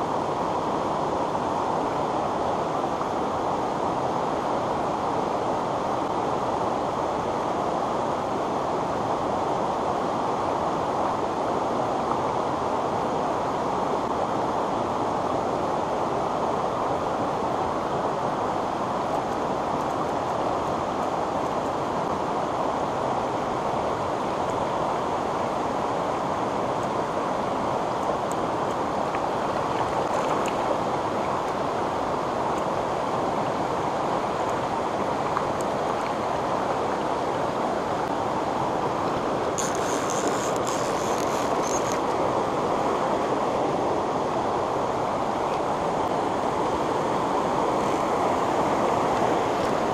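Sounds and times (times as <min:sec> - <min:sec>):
stream flowing over stones: 0:00.0 - 0:49.9.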